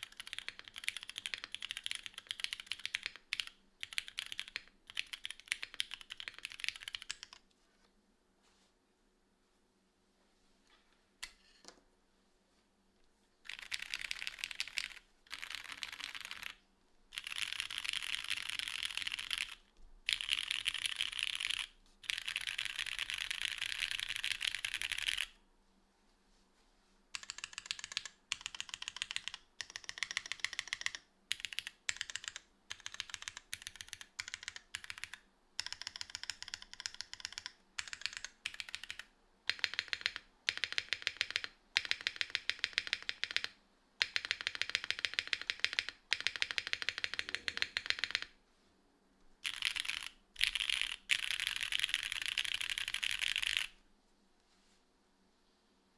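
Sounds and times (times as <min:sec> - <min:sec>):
fast typing on mechanical keyboard: 0:00.0 - 0:07.4, 0:13.4 - 0:25.4, 0:27.2 - 0:48.4, 0:49.4 - 0:53.8.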